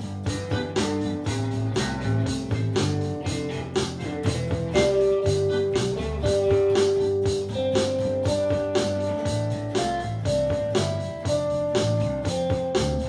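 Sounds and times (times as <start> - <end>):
instrumental band music: 0.0 - 13.0.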